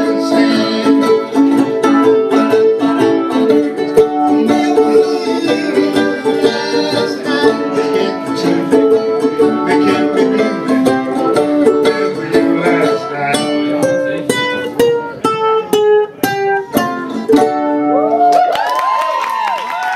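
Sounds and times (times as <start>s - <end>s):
plucked string instrument strumming: 0.0s - 18.2s.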